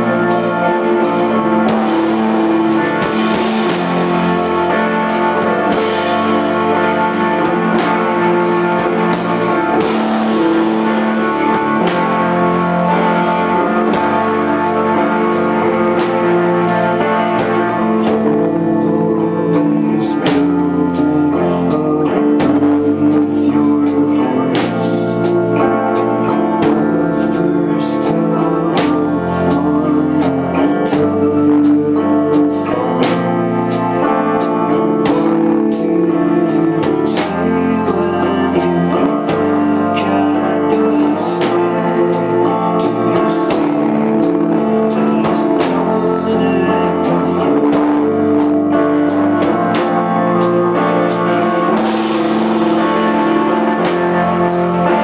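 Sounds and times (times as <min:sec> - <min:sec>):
drums: 0:00.0 - 0:55.0
electric guitar and bass chords: 0:00.0 - 0:55.0
person singing: 0:00.0 - 0:55.0.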